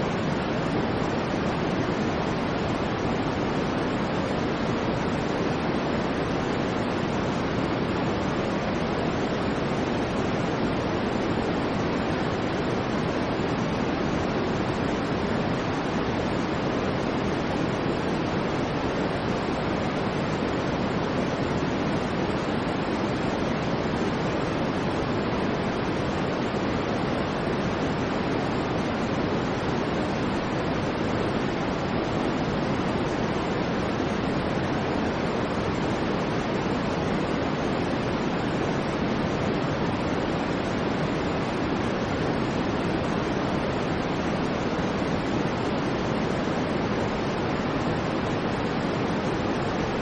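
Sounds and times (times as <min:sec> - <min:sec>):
white noise hiss: 0:00.0 - 0:50.0.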